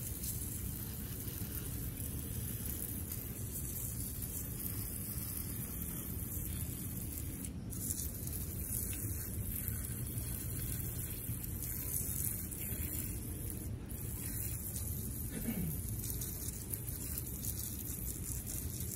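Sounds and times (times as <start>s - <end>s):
water spraying from hose nozzle: 0.0s - 18.9s.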